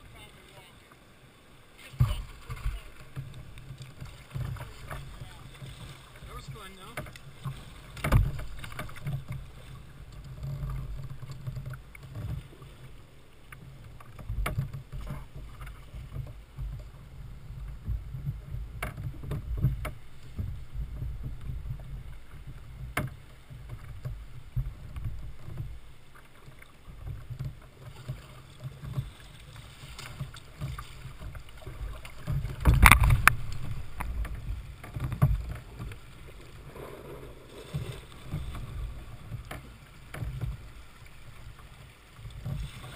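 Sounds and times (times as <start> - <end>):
small splashes and knocks: 1.8 - 42.9
water slapping against kayak hull: 1.8 - 42.9.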